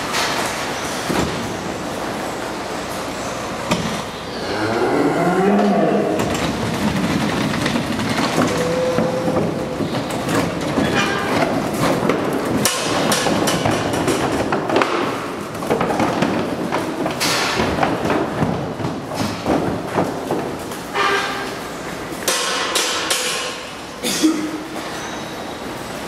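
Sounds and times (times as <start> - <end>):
cattle hooves on trailer floor: 0.0 - 26.0.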